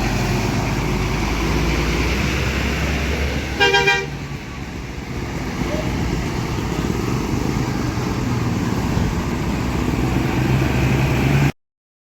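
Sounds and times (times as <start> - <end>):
bus diesel engine running: 0.0 - 11.6.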